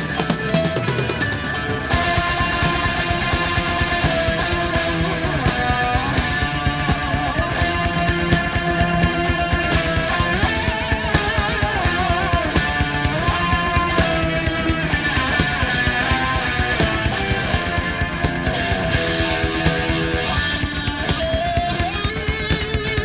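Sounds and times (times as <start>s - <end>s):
bass: 0.0s - 23.0s
drum beat: 0.0s - 23.0s
electric guitar lead: 0.0s - 23.0s.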